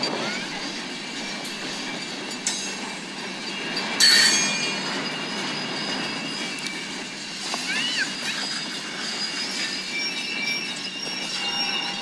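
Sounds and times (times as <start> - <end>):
freight train wheels rumbling: 0.0 - 12.0
high metallic wheel squeals: 0.0 - 12.0.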